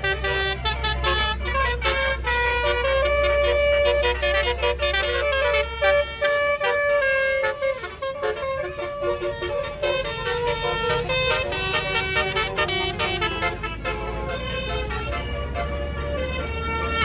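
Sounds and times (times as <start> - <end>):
multi-trumpet air horn melody: 0.0 - 17.0.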